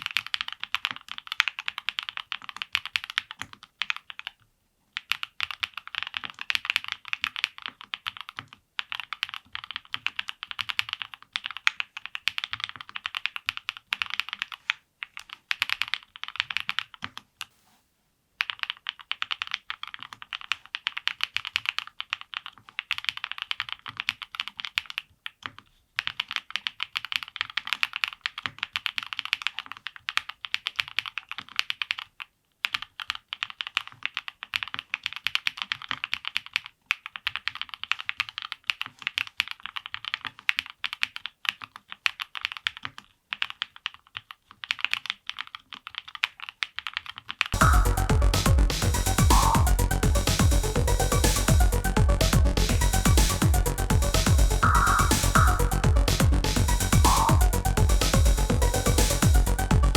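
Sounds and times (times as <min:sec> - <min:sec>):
mechanical keyboard typing: 0:00.0 - 0:17.3, 0:18.4 - 0:59.9.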